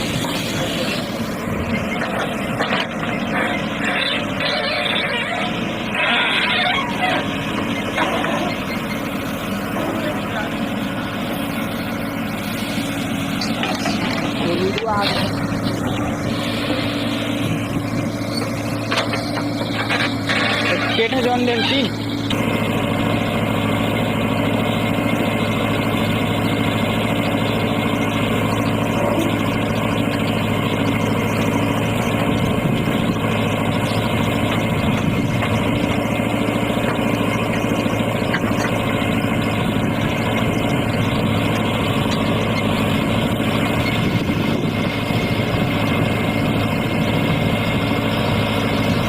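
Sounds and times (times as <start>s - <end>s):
heavy vehicle engine droning: 0.0s - 49.0s.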